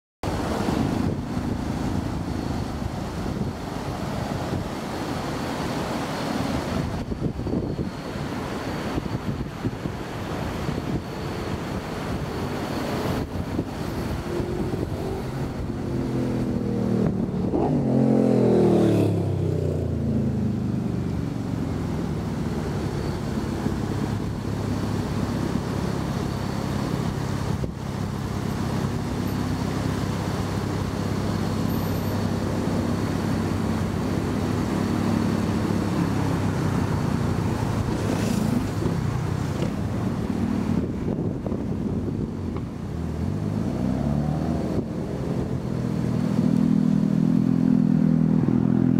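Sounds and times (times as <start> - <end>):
airplane engine roar: 0.2 - 48.9.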